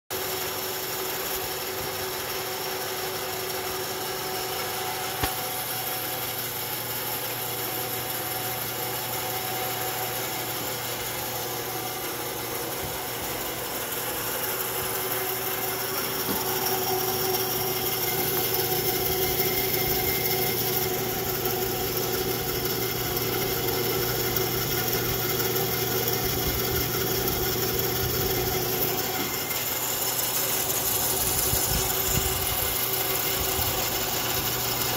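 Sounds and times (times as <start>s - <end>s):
band saw motor humming: 0.1s - 34.9s.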